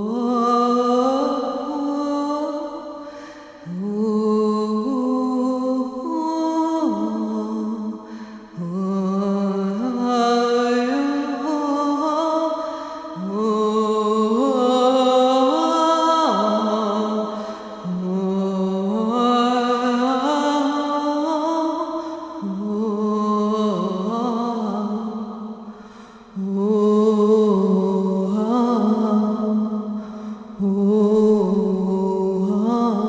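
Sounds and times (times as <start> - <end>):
person chanting wordlessly: 0.0 - 25.7, 26.3 - 33.0.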